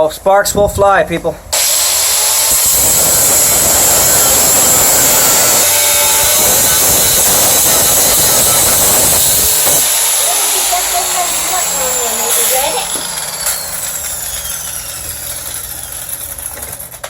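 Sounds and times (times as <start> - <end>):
power saw cutting wood: 1.5 - 17.0.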